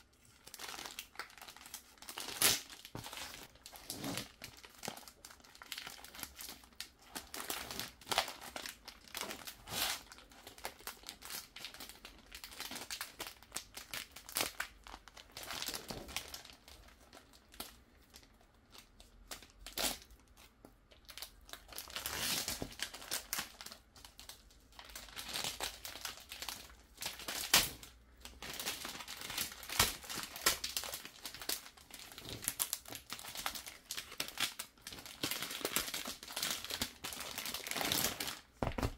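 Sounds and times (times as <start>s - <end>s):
plastic shrink wrap crinkling: 0.0s - 38.9s.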